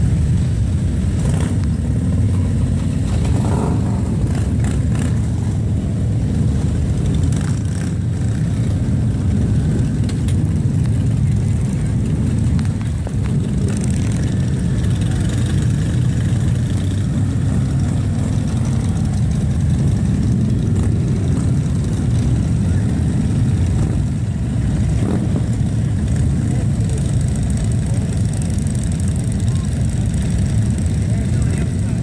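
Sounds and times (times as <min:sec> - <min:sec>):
motorcycle engines idling: 0:00.0 - 0:32.0.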